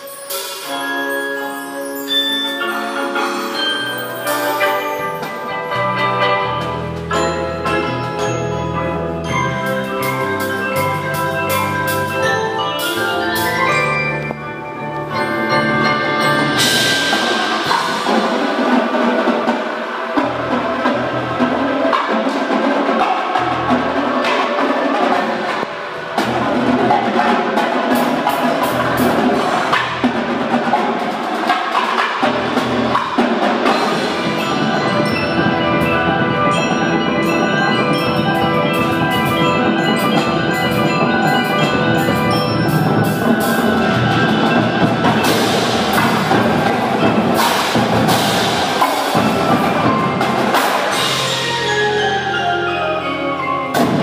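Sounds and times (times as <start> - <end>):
marimbas and mallet keyboards: 0.0 - 54.0
drum line: 9.3 - 52.3, 53.6 - 54.0.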